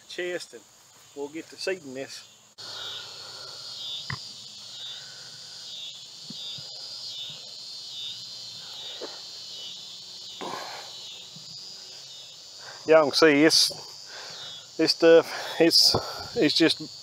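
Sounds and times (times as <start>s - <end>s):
insects singing: 0.0s - 17.0s.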